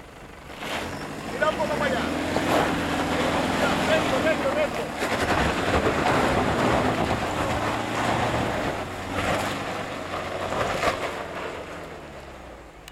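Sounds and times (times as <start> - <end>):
vehicle engine working hard: 0.0 - 12.9
tyres scrabbling on dirt and gravel: 0.5 - 12.5.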